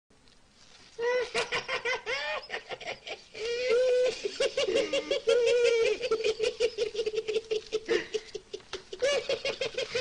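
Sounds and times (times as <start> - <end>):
high-pitched laughter: 1.0 - 10.0.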